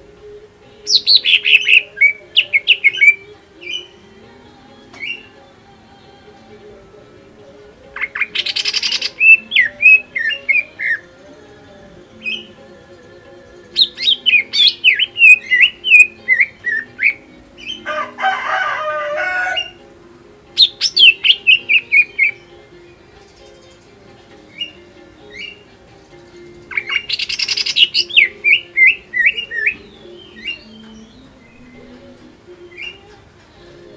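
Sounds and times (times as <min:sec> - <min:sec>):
bird whistling song: 0:00.7 - 0:06.3, 0:08.0 - 0:18.2, 0:19.2 - 0:19.8, 0:20.6 - 0:33.2
bird rasping call: 0:00.7 - 0:06.6, 0:07.9 - 0:19.8, 0:20.5 - 0:33.3.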